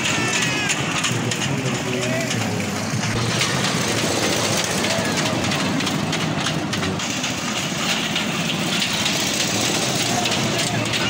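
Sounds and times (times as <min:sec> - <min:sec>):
ride train rumbling: 0:00.0 - 0:11.0
wheels clattering on rails: 0:00.0 - 0:11.0.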